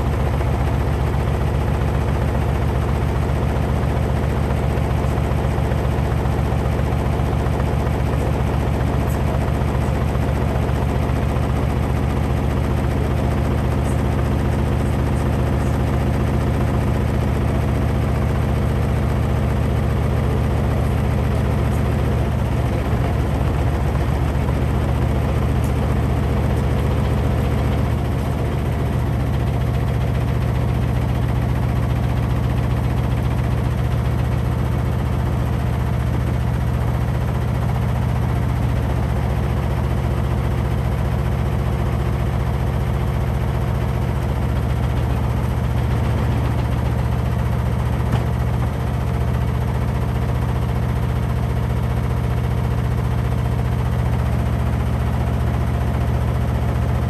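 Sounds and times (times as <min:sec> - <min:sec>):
washing machine running: 0:00.0 - 0:57.0.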